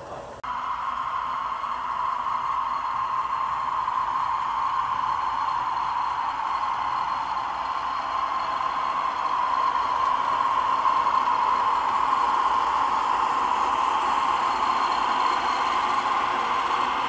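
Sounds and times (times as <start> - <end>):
model locomotive engine sound: 0.0 - 17.0.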